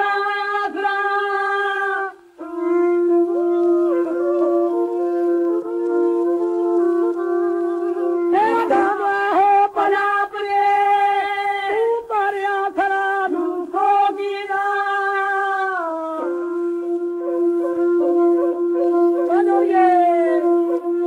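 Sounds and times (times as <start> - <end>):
man singing held notes: 0.0 - 21.0.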